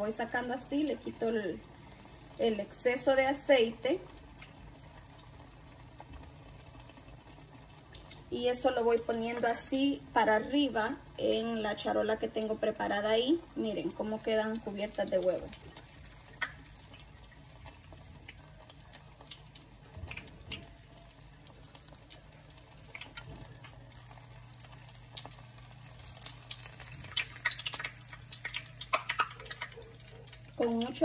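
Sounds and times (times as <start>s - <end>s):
food crackling in hot oil: 0.0s - 31.0s
low steady hum: 0.0s - 31.0s
oil dripping into pan: 0.1s - 11.3s, 13.1s - 31.0s.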